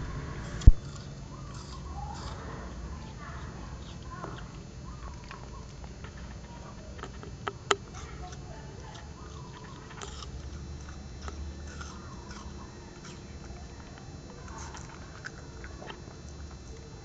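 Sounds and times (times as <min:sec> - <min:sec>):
low steady hum: 0:00.0 - 0:17.0
puppy crunching an apple: 0:00.0 - 0:17.0.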